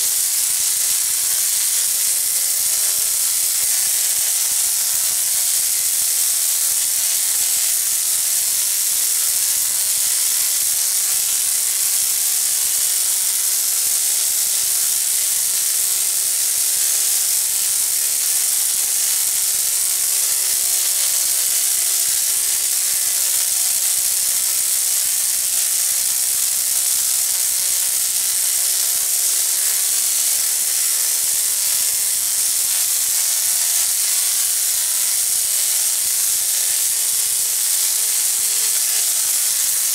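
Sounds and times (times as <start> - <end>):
tesla coil sizzling buzz: 0.0 - 39.9.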